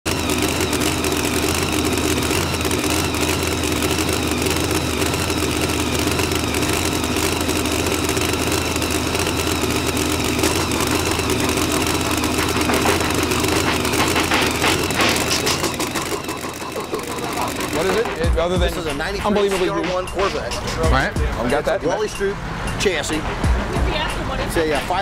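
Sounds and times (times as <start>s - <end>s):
vee eight engine idling loudly: 0.0s - 25.0s.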